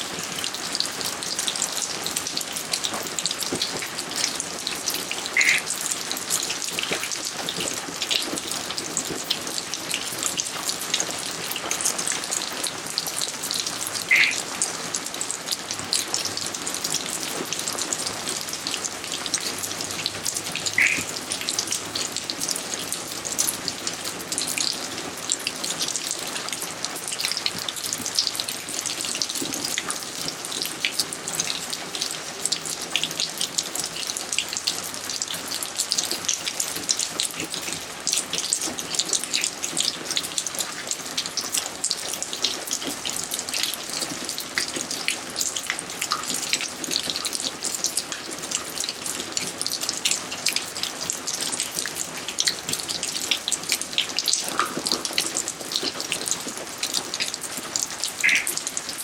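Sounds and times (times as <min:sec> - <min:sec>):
rain patter: 0:00.0 - 0:59.0.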